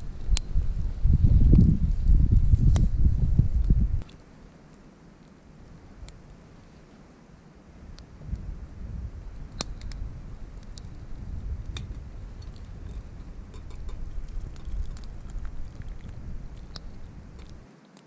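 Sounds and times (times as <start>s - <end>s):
wind rumble on microphone: 0.0s - 4.6s, 5.5s - 17.7s
campfire crackling and snapping: 0.0s - 18.0s.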